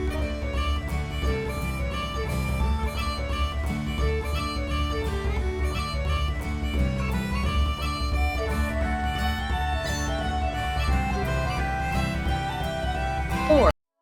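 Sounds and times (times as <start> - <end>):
upbeat folk music on fiddle and guitar: 0.0 - 13.7.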